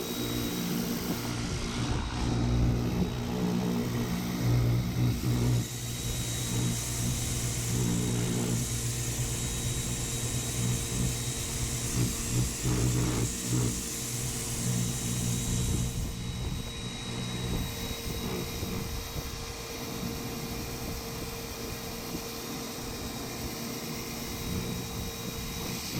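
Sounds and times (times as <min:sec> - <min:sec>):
pressure washer motor hum: 0:00.0 - 0:25.9.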